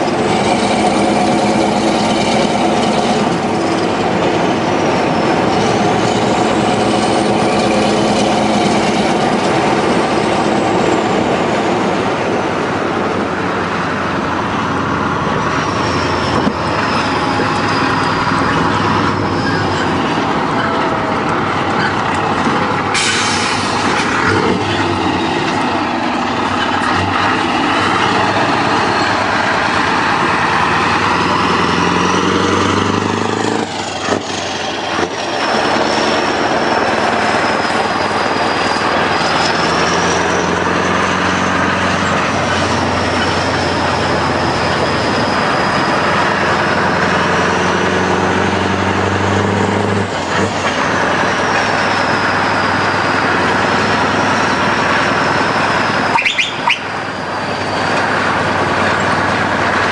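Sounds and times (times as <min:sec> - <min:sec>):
heavy lorry engine drone: 0:00.0 - 0:59.9.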